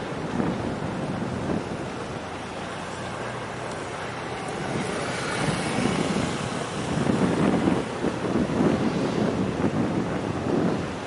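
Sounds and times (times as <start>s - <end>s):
choppy water: 0.0s - 11.0s
wind buffeting microphone: 0.0s - 11.0s.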